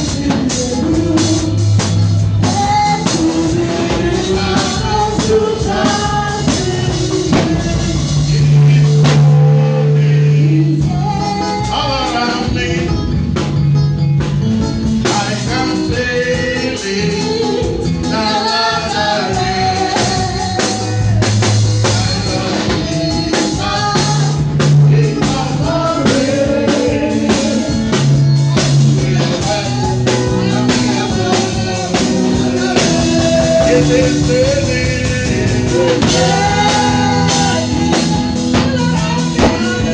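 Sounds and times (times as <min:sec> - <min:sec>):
people singing: 0:00.0 - 0:13.2, 0:14.9 - 0:39.9
bass guitar: 0:00.0 - 0:39.9
drum kit beat: 0:00.0 - 0:39.9
guitar: 0:00.0 - 0:39.9.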